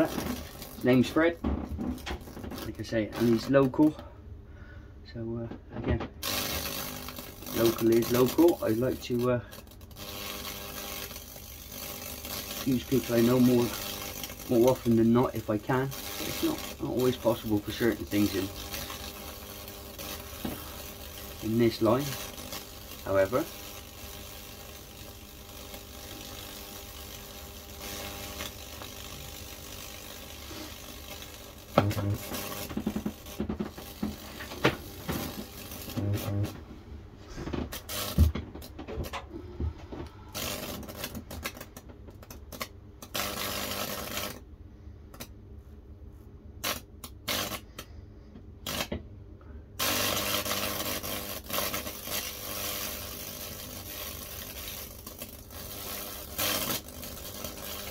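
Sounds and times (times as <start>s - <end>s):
electric arc sizzling and crackling: 0.0s - 4.0s, 6.1s - 39.4s, 40.2s - 44.5s, 46.6s - 48.0s, 48.6s - 49.0s, 49.7s - 57.9s
faint electrical hum: 0.0s - 57.9s.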